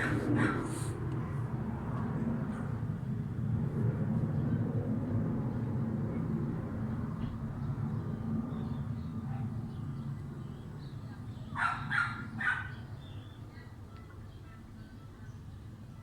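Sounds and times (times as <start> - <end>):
airplane passing rumble: 0.0 - 13.6.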